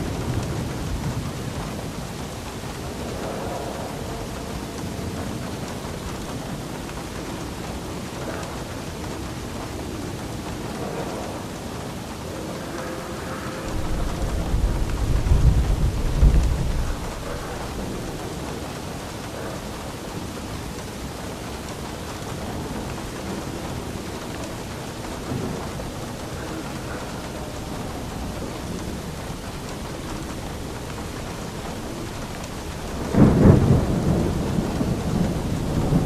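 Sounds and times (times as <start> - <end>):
steady rain falling: 0.0 - 36.0
thunder rumbling: 0.0 - 36.0.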